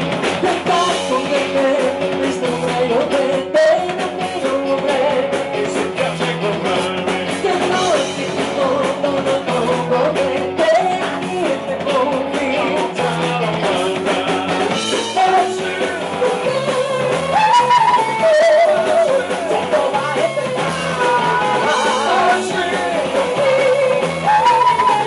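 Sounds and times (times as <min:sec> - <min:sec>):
drum kit: 0:00.0 - 0:25.0
electric bass: 0:00.0 - 0:25.0
electric guitar: 0:00.0 - 0:25.0
woman singing lead: 0:00.3 - 0:25.0.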